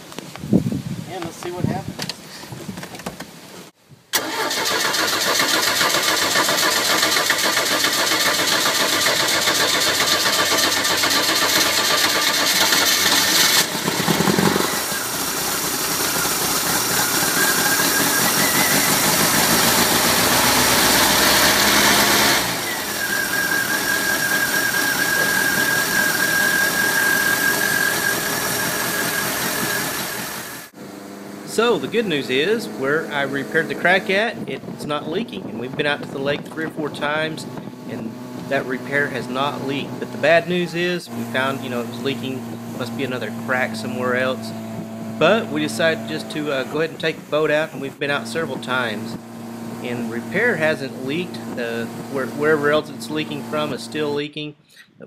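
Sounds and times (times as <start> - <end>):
boat engine running: 5.5 - 30.7, 31.4 - 54.2.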